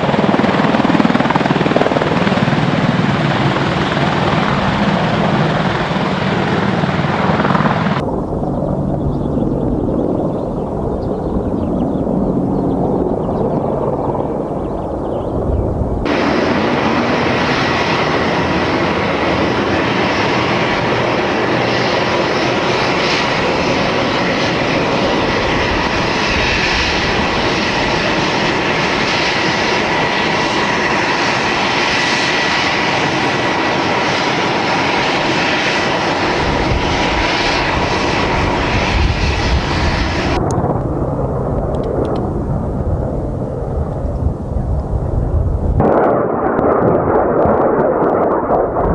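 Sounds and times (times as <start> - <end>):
helicopter engine whine: 0.0 - 48.9
helicopter rotor rush: 0.0 - 48.9.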